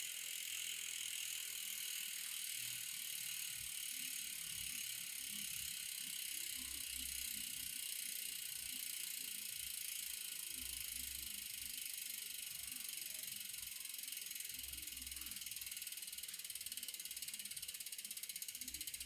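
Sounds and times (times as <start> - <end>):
bicycle freewheel ratchet buzzing: 0.0 - 19.0.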